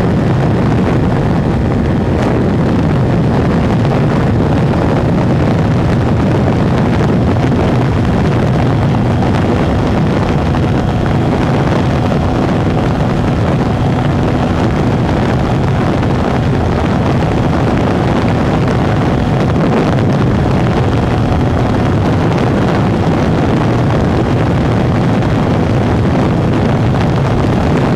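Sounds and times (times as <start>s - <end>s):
motorcycle engine at high speed: 0.0s - 27.9s
wind noise on microphone: 0.0s - 27.9s.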